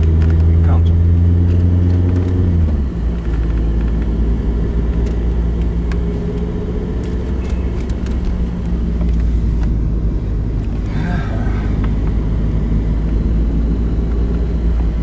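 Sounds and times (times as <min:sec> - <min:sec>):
car engine and road noise drone: 0:00.0 - 0:15.0.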